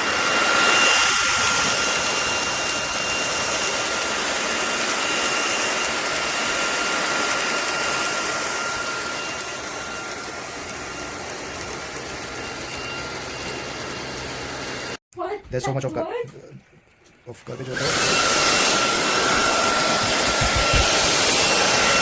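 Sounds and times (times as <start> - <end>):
stick vacuum running: 0.0 - 15.0, 17.5 - 22.0.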